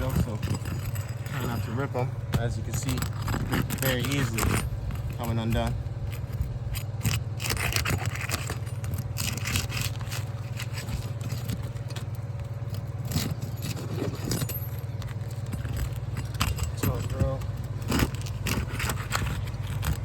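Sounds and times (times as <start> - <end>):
tool scraping shingles: 0.0 - 20.0.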